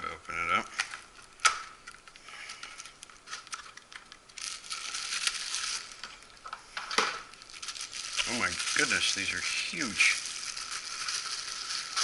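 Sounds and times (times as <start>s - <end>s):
packaging rustling and crinkling: 0.2s - 12.0s.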